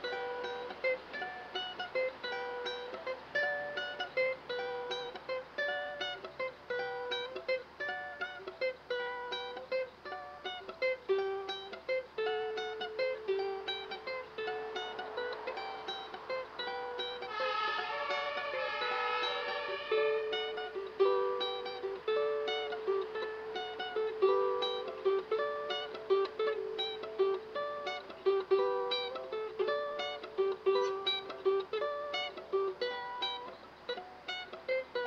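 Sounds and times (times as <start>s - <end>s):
plucked string instrument melody: 0.0s - 35.0s.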